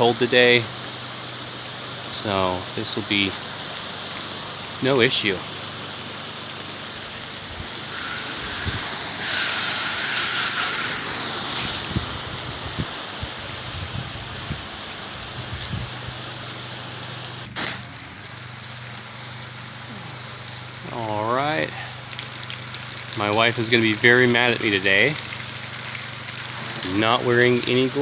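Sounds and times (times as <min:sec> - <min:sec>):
pressure washer spraying: 0:00.0 - 0:28.0.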